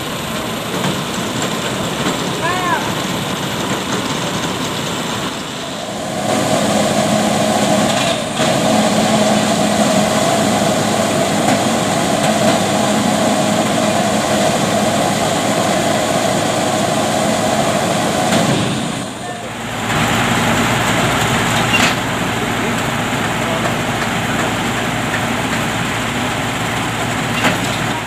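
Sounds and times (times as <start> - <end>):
heavy truck engine running: 0.0 - 28.0.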